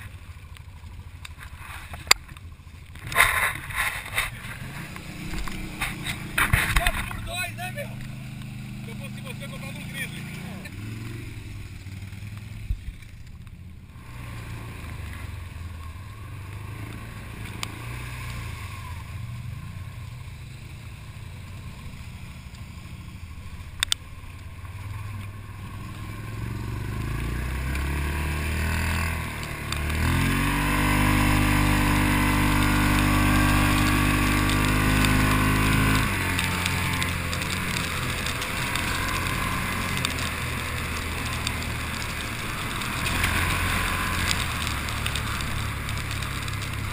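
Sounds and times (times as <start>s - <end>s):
quad bike engine revving: 2.9s - 13.2s, 13.9s - 46.9s.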